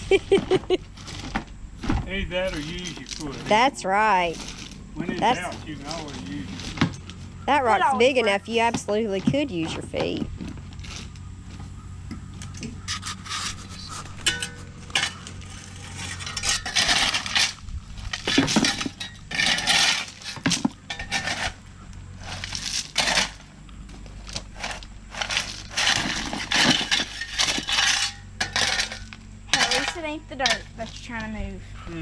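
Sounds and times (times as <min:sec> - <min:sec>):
low steady hum: 0:00.0 - 0:32.0
metal rake scraping gravel: 0:00.9 - 0:01.4, 0:02.3 - 0:08.7, 0:10.6 - 0:11.7, 0:12.7 - 0:31.2.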